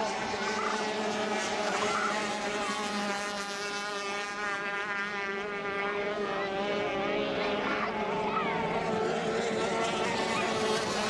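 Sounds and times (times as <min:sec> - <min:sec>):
boat engine high-pitched drone: 0:00.0 - 0:11.0.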